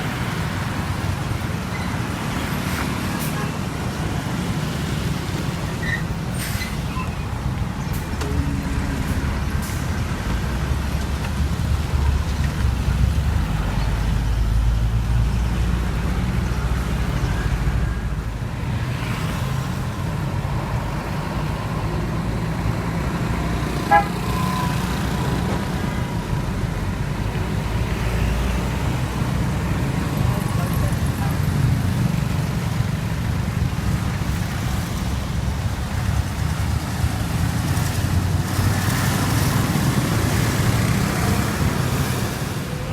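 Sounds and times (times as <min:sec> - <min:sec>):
street traffic: 0:00.0 - 0:42.9
truck diesel engines rumbling: 0:00.0 - 0:42.9.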